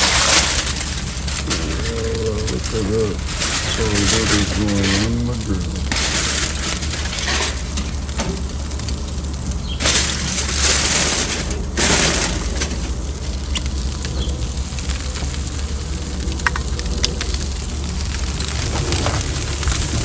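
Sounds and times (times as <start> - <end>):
food sizzling on charcoal grill: 0.0 - 20.0
steady low hum: 0.0 - 20.0.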